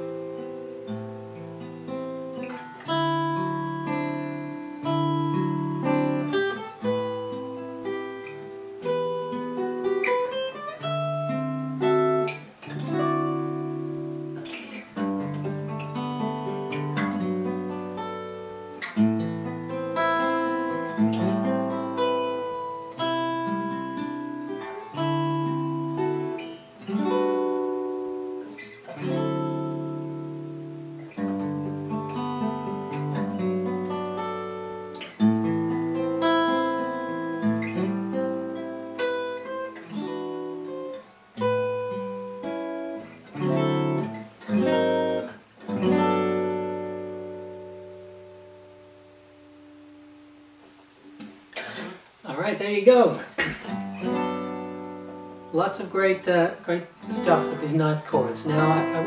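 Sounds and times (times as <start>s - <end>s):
fingerstyle acoustic guitar: 0.0s - 59.0s.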